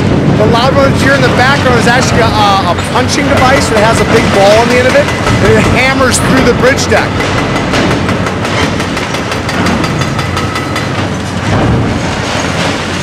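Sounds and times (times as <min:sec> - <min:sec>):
hydraulic hammer pounding concrete: 0:00.0 - 0:13.0.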